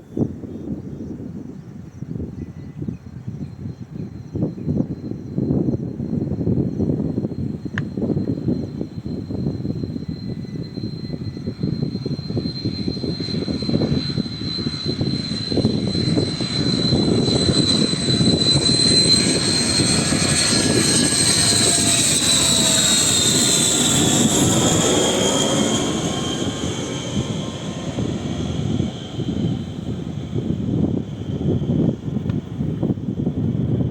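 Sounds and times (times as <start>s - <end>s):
airliner passing overhead: 0.0s - 33.9s.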